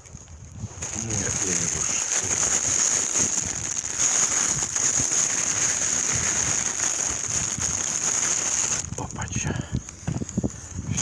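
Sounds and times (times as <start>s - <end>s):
campfire crackling: 0.0s - 11.0s
fat sizzling over flames: 0.0s - 11.0s.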